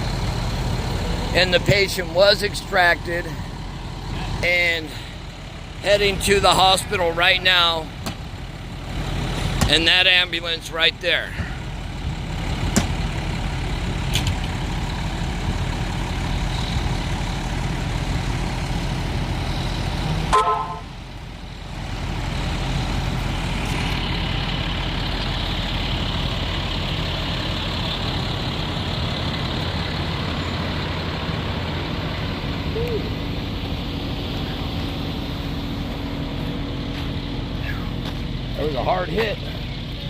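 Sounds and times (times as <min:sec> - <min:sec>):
large vehicle engine idling: 0:00.0 - 0:40.0.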